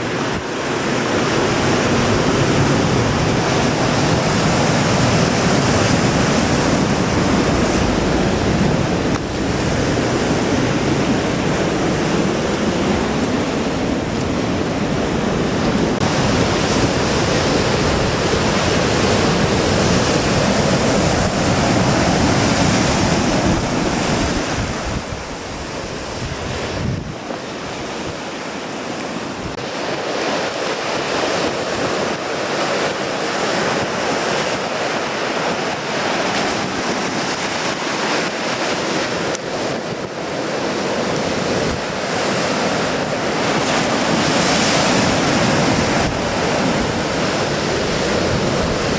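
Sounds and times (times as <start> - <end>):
waves breaking on rocky shore: 0.0 - 48.9
wind buffeting microphone: 0.0 - 48.9.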